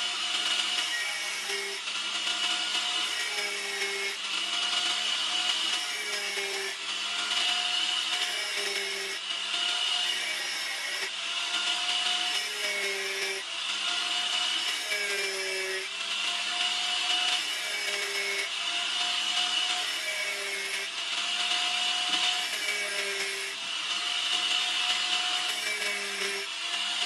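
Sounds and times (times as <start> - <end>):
angle grinder motor whine: 0.0 - 27.0.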